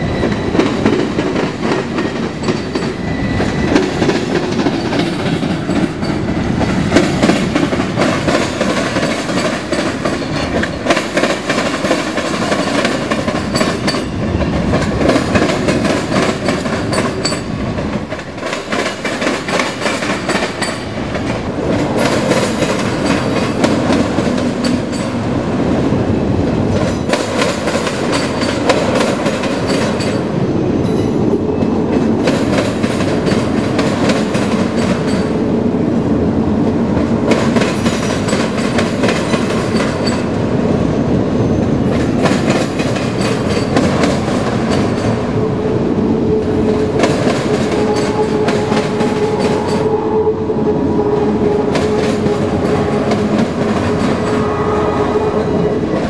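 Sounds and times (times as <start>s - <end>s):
train wheels rumbling on rail: 0.0s - 56.0s
wheels clacking over rail joints: 0.2s - 35.8s, 36.9s - 50.3s, 51.0s - 56.0s.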